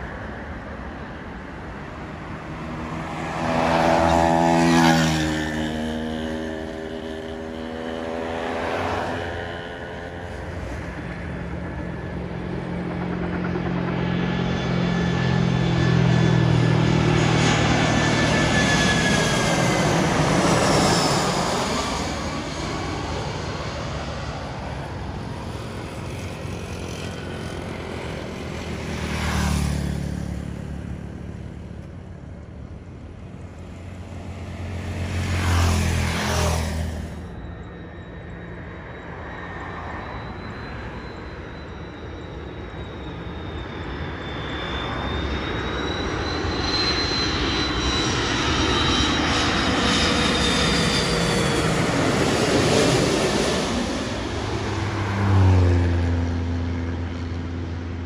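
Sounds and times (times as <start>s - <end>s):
jet engine noise: 0.0s - 58.0s
jet engine whine overhead: 0.0s - 58.0s.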